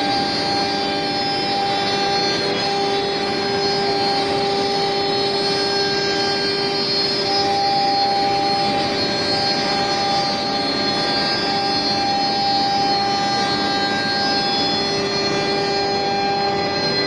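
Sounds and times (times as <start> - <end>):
rushing noise of cutting and extraction: 0.0 - 17.0
spindle whine: 0.0 - 17.0.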